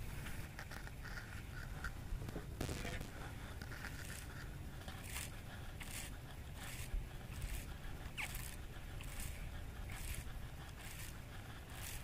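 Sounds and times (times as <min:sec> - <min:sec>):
scraping rustles of fishing line: 0:00.0 - 0:12.0.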